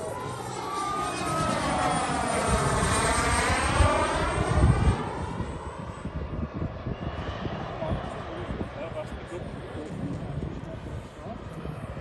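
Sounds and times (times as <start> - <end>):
model jet flyby whoosh: 0.0 - 12.0.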